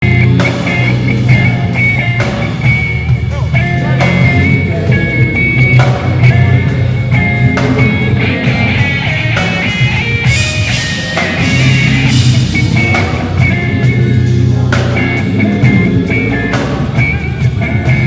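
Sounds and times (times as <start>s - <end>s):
live band with drums and guitar: 0.0s - 18.0s.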